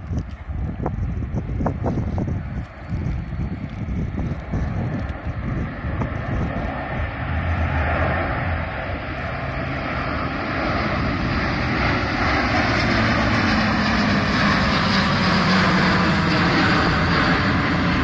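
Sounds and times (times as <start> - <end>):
turboprop aircraft engines: 0.0 - 18.0.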